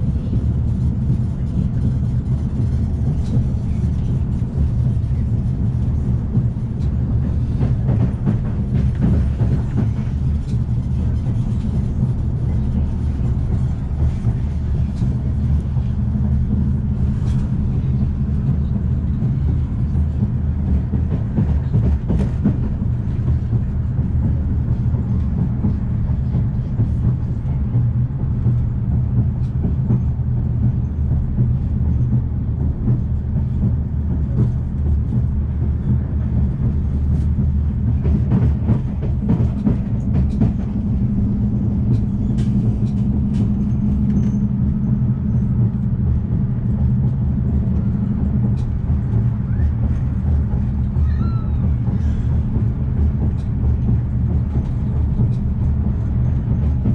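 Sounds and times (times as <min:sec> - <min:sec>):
train rumble and hum: 0:00.0 - 0:56.9.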